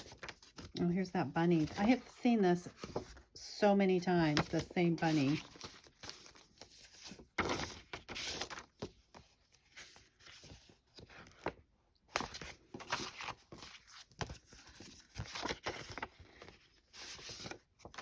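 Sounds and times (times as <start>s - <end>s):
paper cards rustling: 0.0s - 3.3s, 4.1s - 18.0s.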